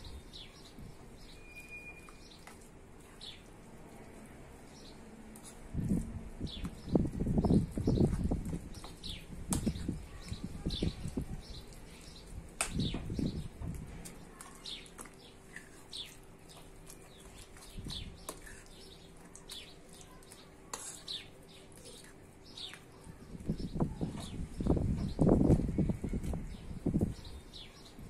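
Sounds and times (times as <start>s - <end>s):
small birds chirping: 0.0s - 28.0s
spoon stirring wet mixture: 0.0s - 28.0s.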